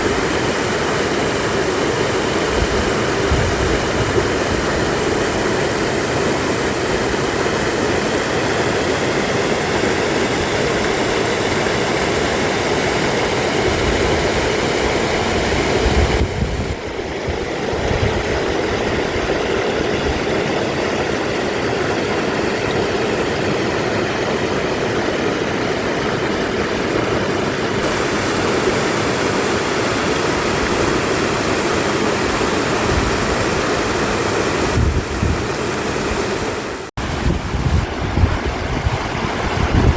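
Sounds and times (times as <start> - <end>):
mountain stream rushing over rocks: 0.0 - 39.9.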